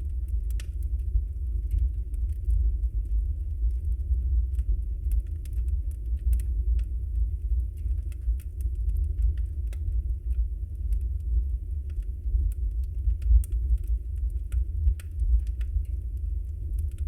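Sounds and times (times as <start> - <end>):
fire crackles and pops: 0.0 - 17.0
log fire rumbling: 0.0 - 17.0.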